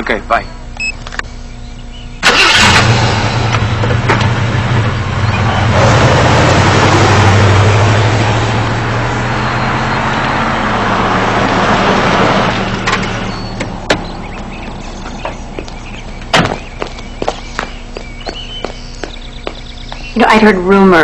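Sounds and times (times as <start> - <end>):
car engine running: 0.0 - 20.2.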